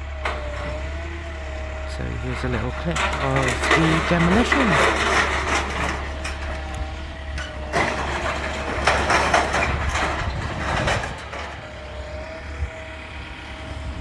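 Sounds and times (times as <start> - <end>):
heavy machinery engine rumbling: 0.0 - 14.0
demolition rubble crashing: 0.2 - 12.1.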